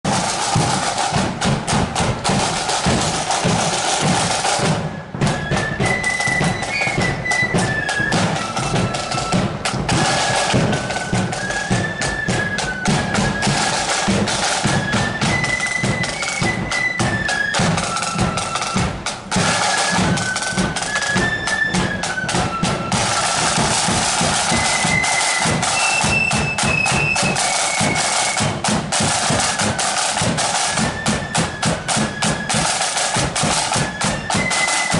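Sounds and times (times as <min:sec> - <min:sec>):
snare and bass drums: 0:00.0 - 0:34.9
high flute melody: 0:00.1 - 0:34.9.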